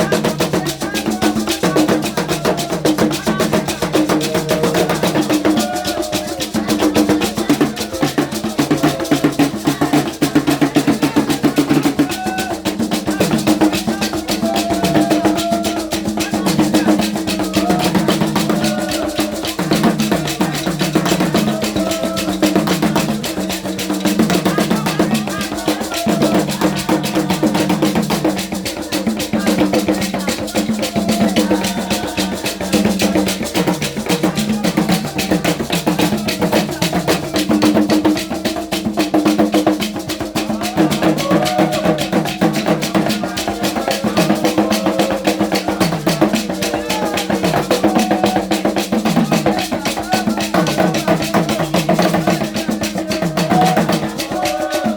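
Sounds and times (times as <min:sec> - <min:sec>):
fast dense drumming: 0:00.0 - 0:54.9.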